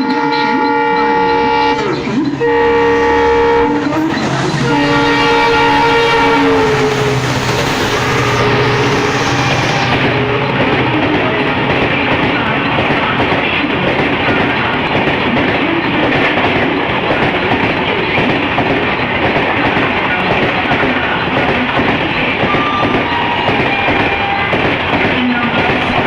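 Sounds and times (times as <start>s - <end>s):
express train passing at speed: 0.0s - 26.0s.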